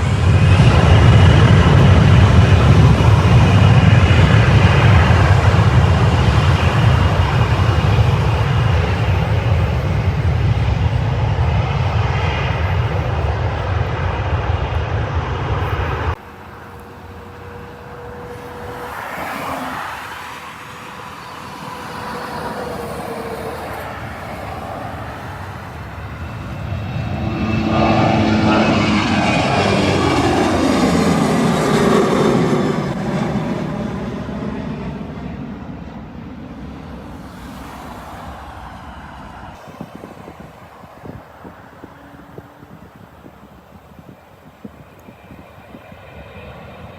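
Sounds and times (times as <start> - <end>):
jet engines rumbling: 0.0 - 46.9
jet passing with engine whine: 0.0 - 46.9.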